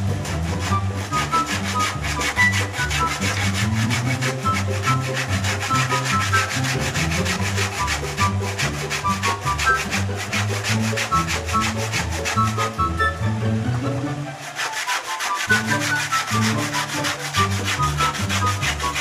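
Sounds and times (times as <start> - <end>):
background music: 0.0 - 19.0
hand saw cutting wood: 0.0 - 19.0.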